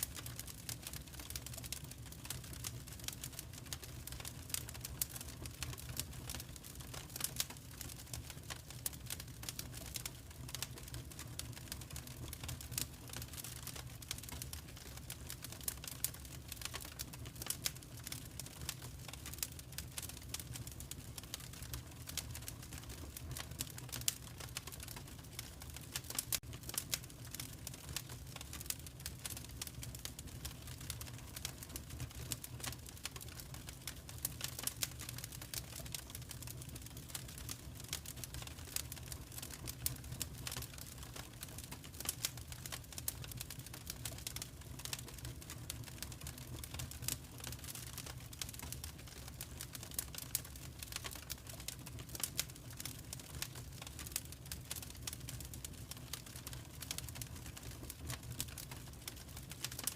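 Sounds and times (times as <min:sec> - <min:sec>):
wood fire crackling: 0:00.0 - 0:59.9
low fire rumble: 0:00.1 - 0:59.9.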